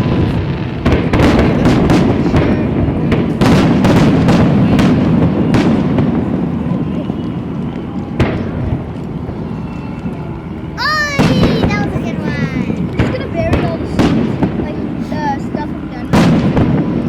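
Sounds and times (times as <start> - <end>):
fireworks sharp bangs: 0.0 - 17.0.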